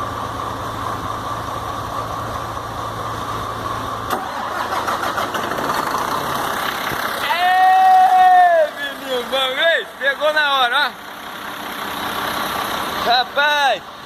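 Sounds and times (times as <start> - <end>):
diesel engine hum: 0.0 - 14.0.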